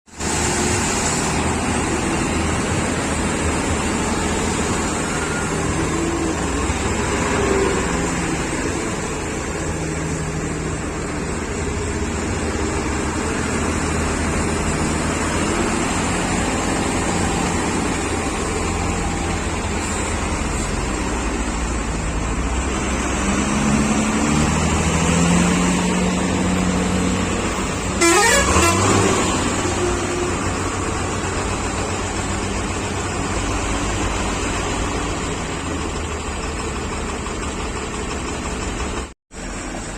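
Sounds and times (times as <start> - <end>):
heavy truck engines droning: 0.1 - 39.9.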